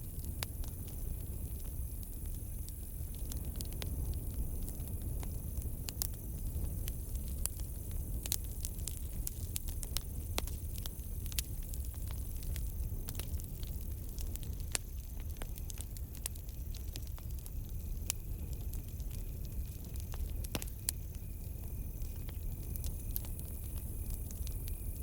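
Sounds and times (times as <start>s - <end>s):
campfire crackling and popping: 0.0s - 25.0s
crickets chirring: 0.0s - 25.0s.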